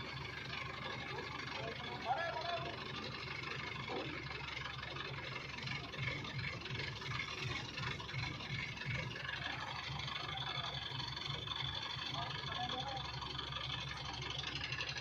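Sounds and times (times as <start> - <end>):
farm vehicle engine idling: 0.0 - 15.0.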